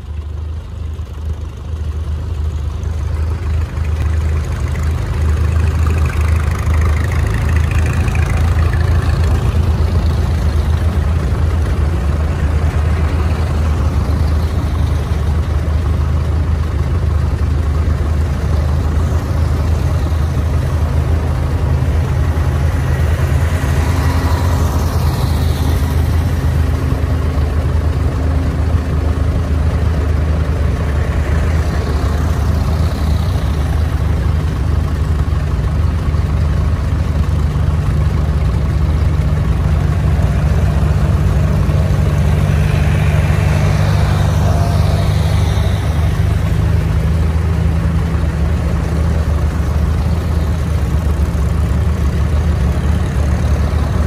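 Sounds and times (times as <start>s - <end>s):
tractor engines droning: 0.0s - 54.0s.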